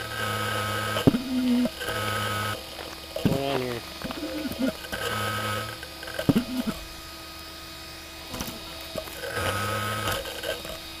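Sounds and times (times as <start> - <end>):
faint steady whine: 0.0 - 11.0
quadcopter buzzing bursts: 0.0 - 11.0.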